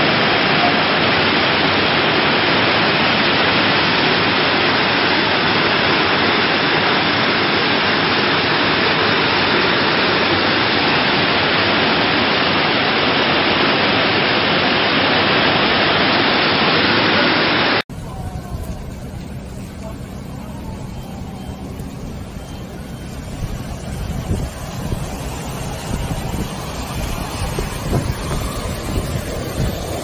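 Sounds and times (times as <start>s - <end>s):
muddy water rushing: 0.0s - 30.0s.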